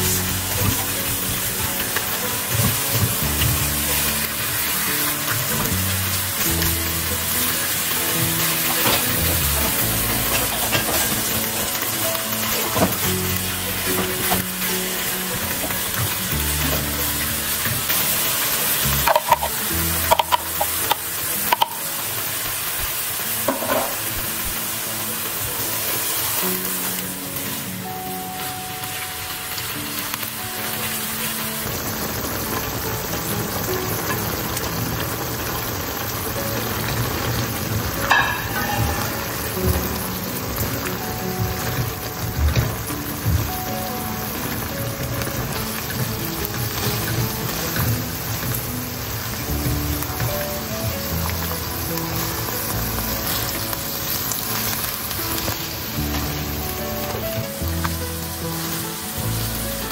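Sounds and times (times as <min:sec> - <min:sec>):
faint background music: 0:00.0 - 0:59.9
food sizzling in a pan: 0:00.0 - 0:59.9.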